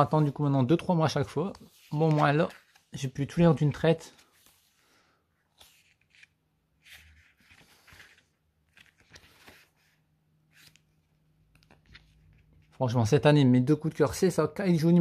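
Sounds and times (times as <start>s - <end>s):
pages turning: 0.0s - 12.8s.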